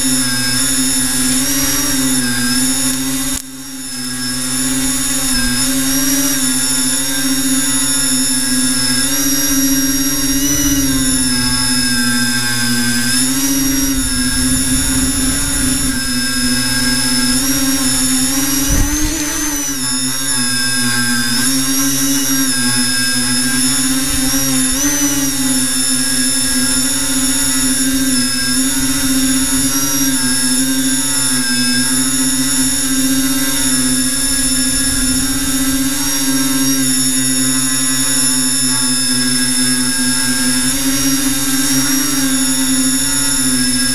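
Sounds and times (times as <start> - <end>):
drone motors whining: 0.0 - 43.9.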